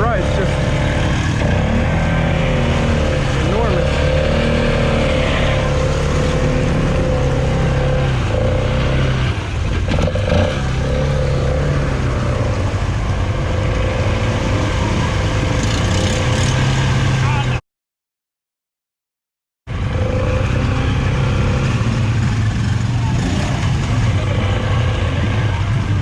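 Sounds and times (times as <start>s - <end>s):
atv engine running: 0.0s - 17.6s, 19.7s - 26.0s.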